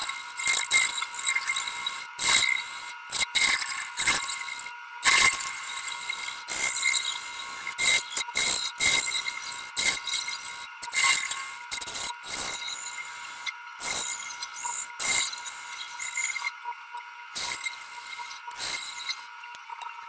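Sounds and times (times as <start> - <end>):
turning tool scraping cuts: 0.0 - 16.5, 17.4 - 19.3
lathe high whine: 0.0 - 16.6, 17.4 - 19.4.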